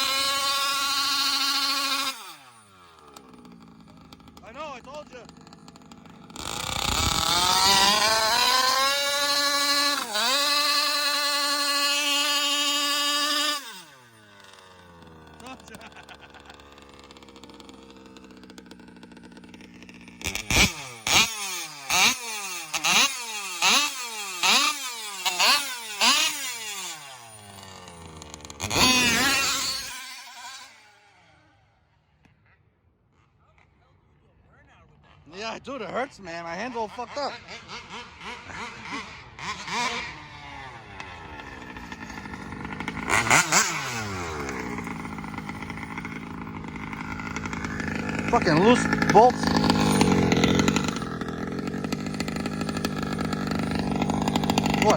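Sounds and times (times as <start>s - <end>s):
small two-stroke engine revving: 0.0s - 32.4s, 35.0s - 54.9s.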